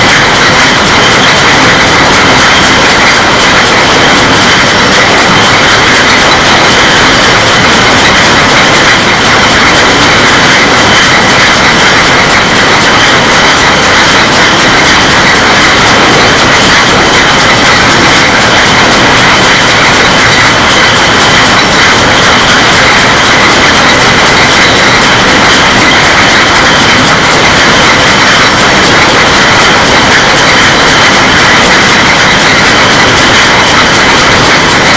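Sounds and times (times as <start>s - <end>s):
filling machinery noise: 0.0s - 34.9s
glass bottles rattling on conveyor: 0.0s - 34.9s.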